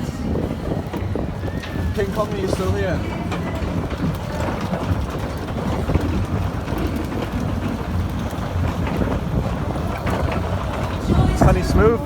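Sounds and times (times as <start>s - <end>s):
fairground ride rumbling: 0.0s - 12.0s.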